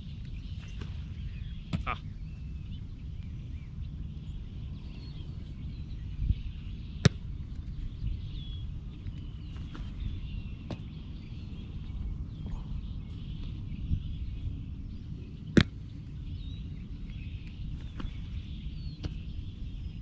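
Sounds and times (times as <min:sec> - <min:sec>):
birds chirping faintly: 0:00.0 - 0:20.0
low wind rumble: 0:00.0 - 0:20.0.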